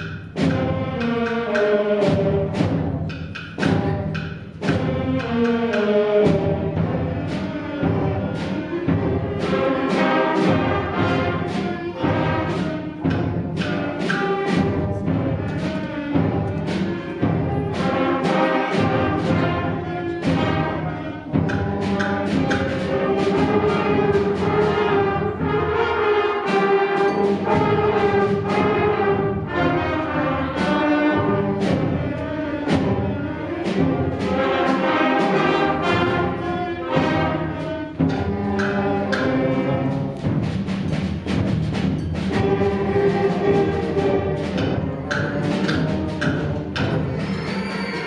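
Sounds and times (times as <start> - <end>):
percussion strikes: 0.0 - 48.0.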